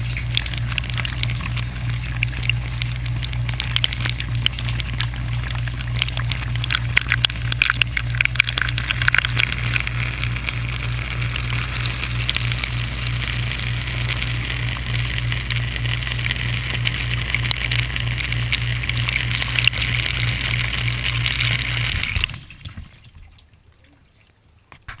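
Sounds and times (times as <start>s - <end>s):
water spraying and splashing: 0.0s - 23.9s
low pump motor hum: 0.0s - 25.0s.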